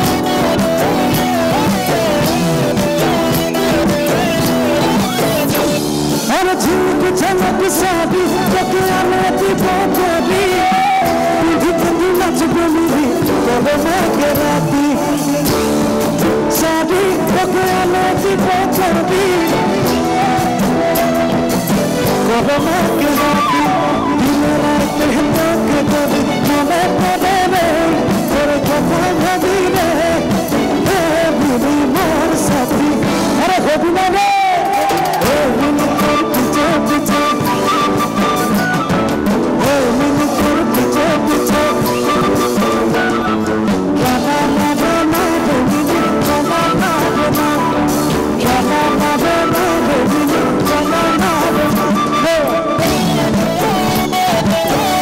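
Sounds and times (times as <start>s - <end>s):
drum kit: 0.0s - 55.0s
electric guitar: 0.0s - 55.0s
man singing lead vocals: 0.0s - 55.0s.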